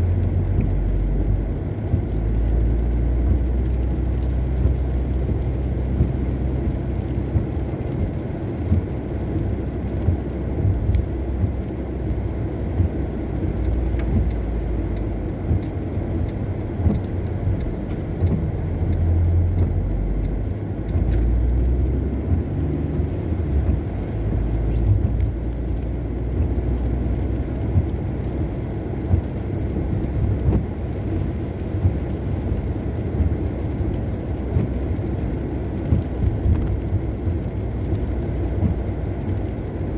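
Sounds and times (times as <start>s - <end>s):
car driving on wet road: 0.0s - 39.9s
light ticks: 0.0s - 39.9s.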